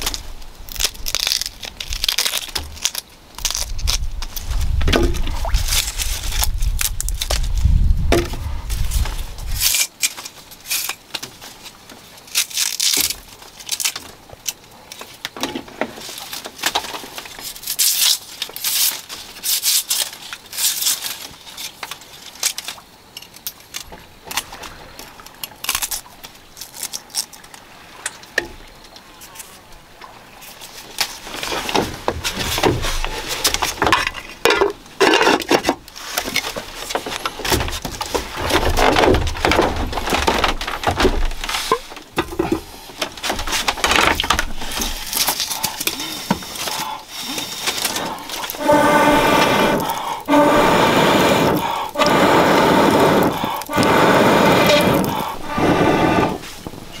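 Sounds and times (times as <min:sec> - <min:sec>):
bamboo husks cracking and tearing: 0:00.0 - 0:28.1, 0:30.4 - 0:55.6.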